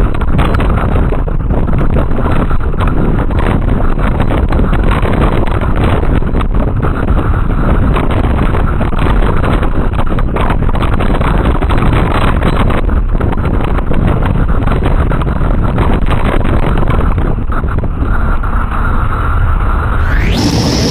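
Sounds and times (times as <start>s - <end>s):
train wheels rumbling on rails: 0.0s - 20.9s
wind buffeting microphone: 0.0s - 20.9s.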